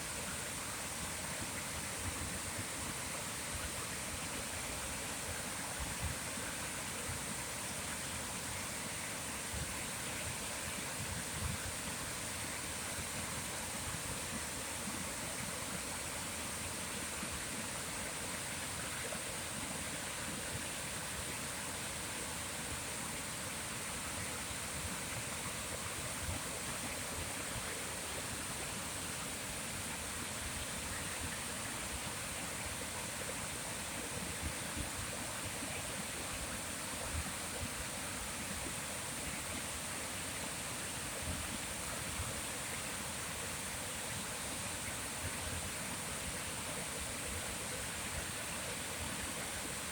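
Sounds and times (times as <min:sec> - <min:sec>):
stream water rushing: 0:00.0 - 0:49.9.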